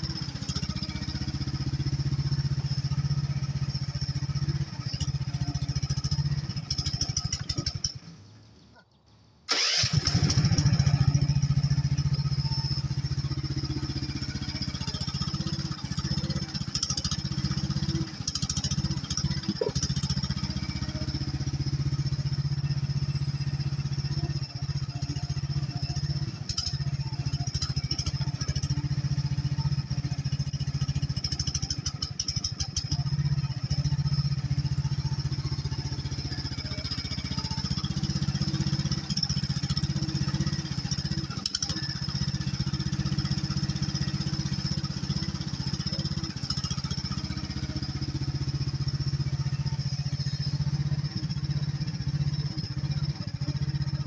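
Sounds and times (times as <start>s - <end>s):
excavator engine running: 0.0s - 8.8s, 9.5s - 54.0s.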